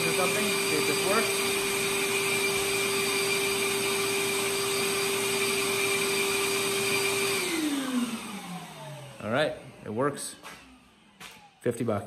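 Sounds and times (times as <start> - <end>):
dust extractor motor whine: 0.0 - 11.7.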